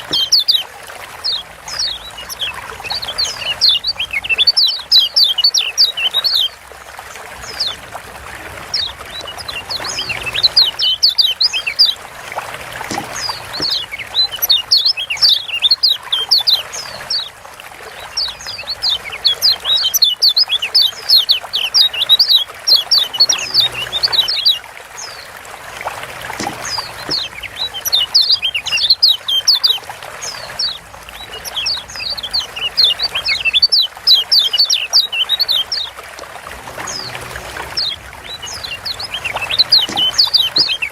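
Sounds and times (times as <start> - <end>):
bird chirping: 0.0 - 6.6, 8.6 - 12.0, 12.6 - 25.2, 26.3 - 35.9, 36.8 - 40.9
trickling hiss: 0.0 - 40.9.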